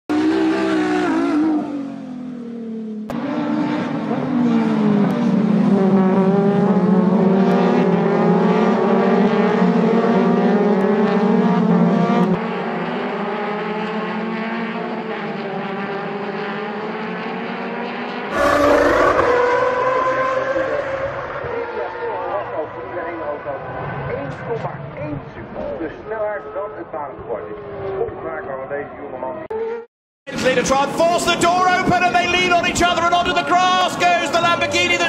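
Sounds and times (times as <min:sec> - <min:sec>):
racing car engines revving: 0:00.1 - 0:35.0.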